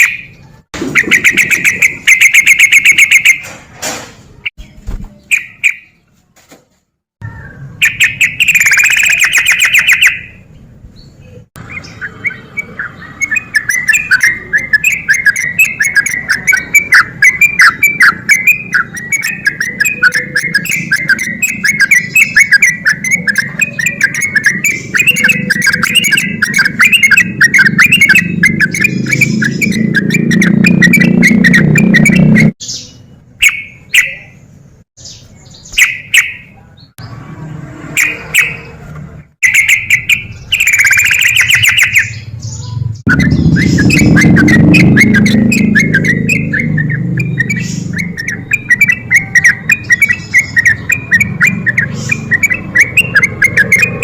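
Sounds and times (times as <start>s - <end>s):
bird chirping and chattering: 0.0s - 3.5s, 4.4s - 6.0s, 7.2s - 37.2s, 37.9s - 38.8s, 39.4s - 54.0s.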